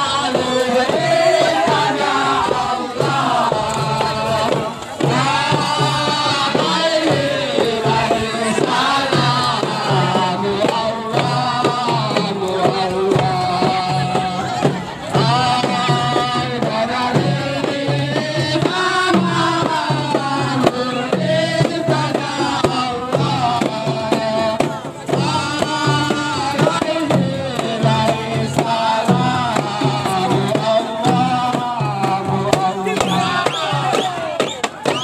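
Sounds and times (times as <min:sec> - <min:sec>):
frame drums beating: 0:00.0 - 0:35.0
men chanting in chorus: 0:00.0 - 0:35.0.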